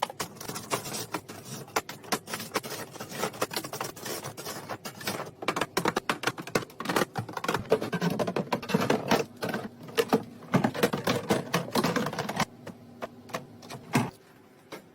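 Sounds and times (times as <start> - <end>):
food containers clicking and knocking: 0.0 - 14.2.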